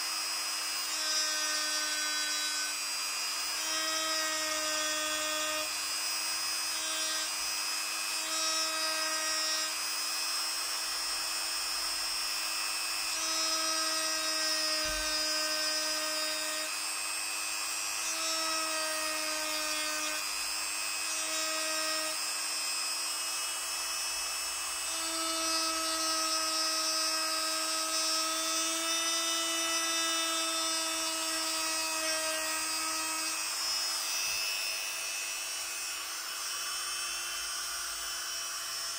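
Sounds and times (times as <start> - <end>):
rotary engraver whining: 0.0 - 38.9.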